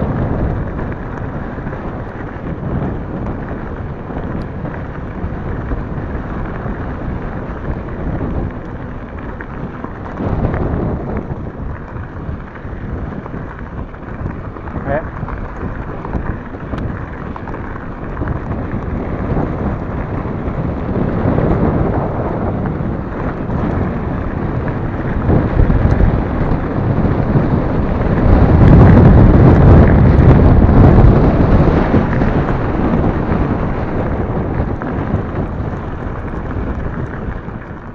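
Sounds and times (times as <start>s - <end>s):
tyres rumbling on gravel: 0.0s - 37.9s
wind buffeting microphone: 0.0s - 37.9s.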